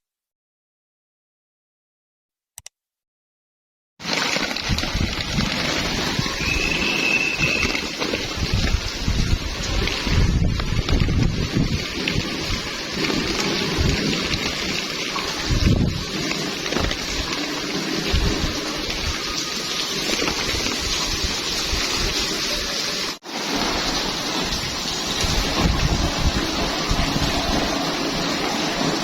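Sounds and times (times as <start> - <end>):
heavy rain hissing: 4.0 - 29.0.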